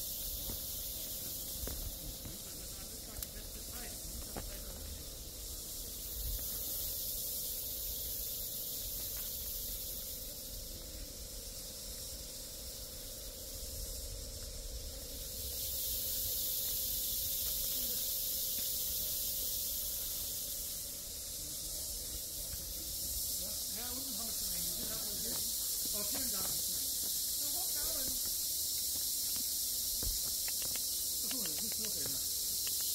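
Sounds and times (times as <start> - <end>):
high-pitched insect drone: 0.0 - 32.9.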